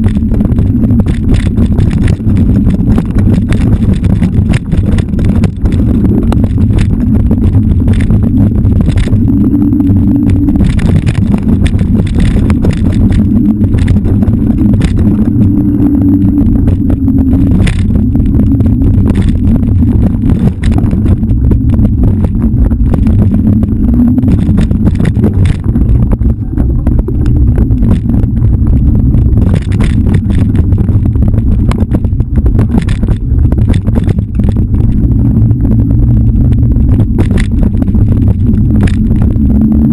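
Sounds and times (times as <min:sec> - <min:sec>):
rattles and knocks from bumps: 0:00.0 - 0:39.9
wind buffeting microphone: 0:00.0 - 0:39.9.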